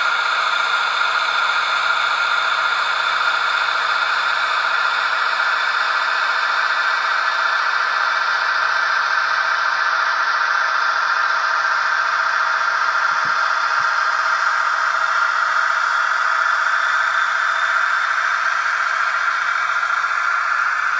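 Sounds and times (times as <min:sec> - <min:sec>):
diesel engine sound through small speaker: 0:00.0 - 0:20.9.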